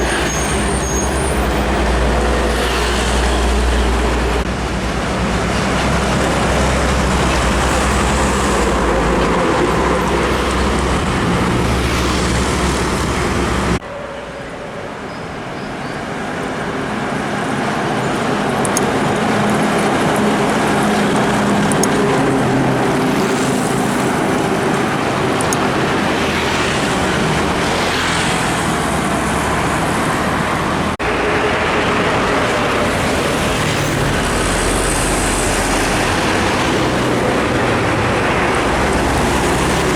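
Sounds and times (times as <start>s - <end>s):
heavy trucks passing: 0.0s - 39.9s
tyre and road noise: 0.0s - 39.9s.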